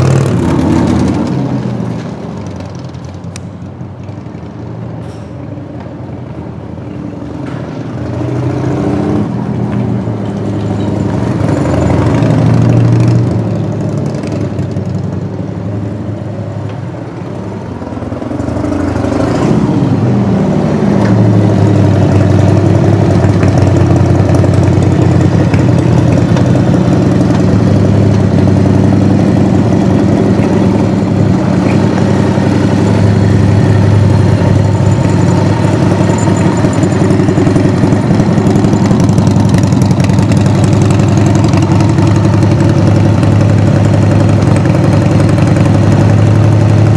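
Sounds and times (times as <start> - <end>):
motorcycle engine running: 0.0 - 4.6, 7.8 - 46.9.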